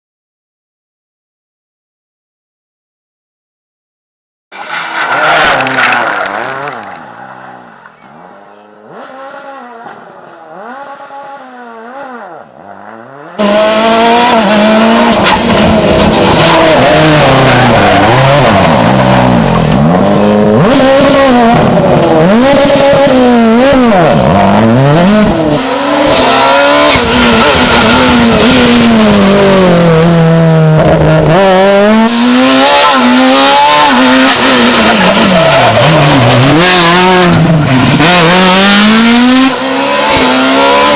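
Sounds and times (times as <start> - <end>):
rally car engine revving: 4.5 - 40.9.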